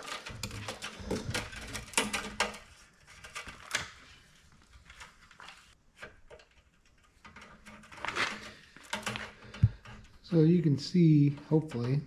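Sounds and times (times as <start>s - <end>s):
metal cable clicks and rattles: 0.0s - 12.0s.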